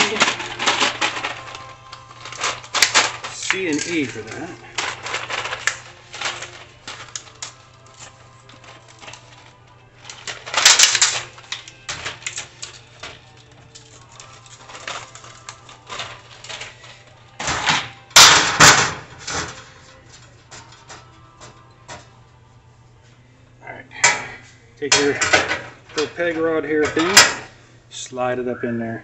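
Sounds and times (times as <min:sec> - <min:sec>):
metal parts clattering: 0:00.0 - 0:22.1, 0:24.0 - 0:27.6
metal parts clicking and clinking: 0:00.0 - 0:22.1, 0:24.9 - 0:27.5.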